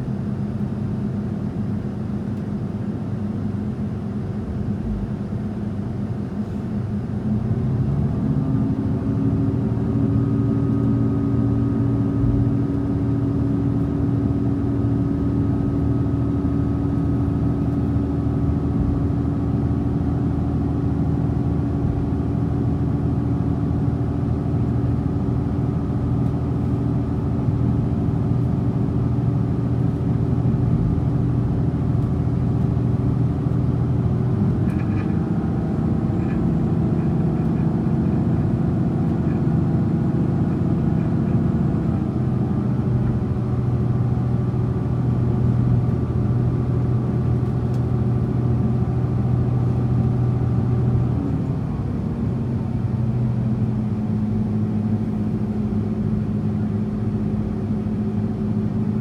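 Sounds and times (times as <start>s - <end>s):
train diesel engines running: 0.0s - 59.0s.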